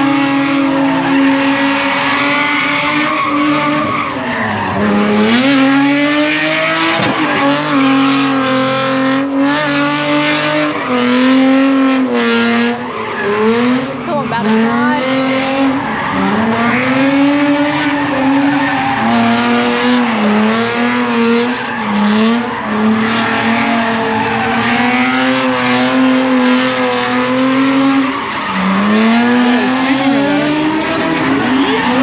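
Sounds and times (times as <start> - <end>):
car engine revving high: 0.0 - 32.0
tyres skidding and squealing: 0.0 - 32.0.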